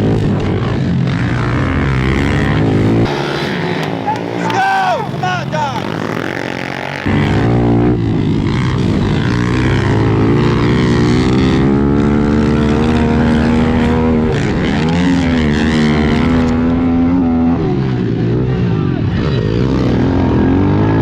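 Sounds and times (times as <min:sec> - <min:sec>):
pit bike engine revving high: 0:01.1 - 0:18.6.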